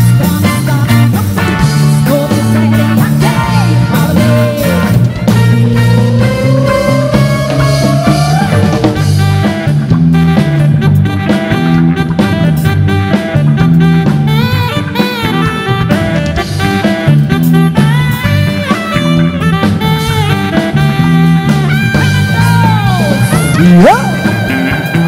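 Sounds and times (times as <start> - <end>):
bass line: 0.0 - 25.0
drum kit: 0.0 - 25.0
electric guitar: 0.0 - 25.0
keyboard: 0.0 - 25.0.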